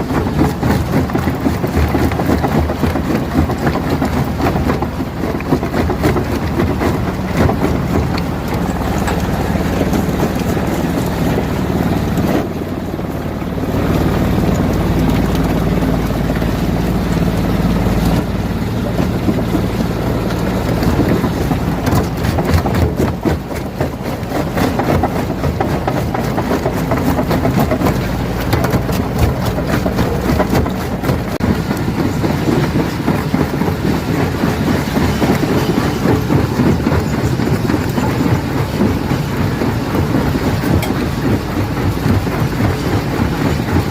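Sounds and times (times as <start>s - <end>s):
heavy machine drone: 0.0s - 43.9s.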